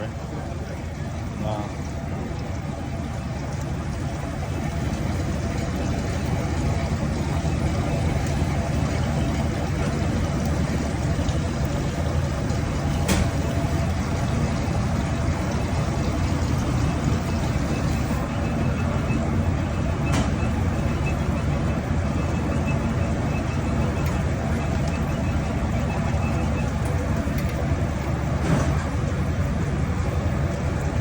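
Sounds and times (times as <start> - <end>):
low mechanical rumble: 0.0 - 31.0.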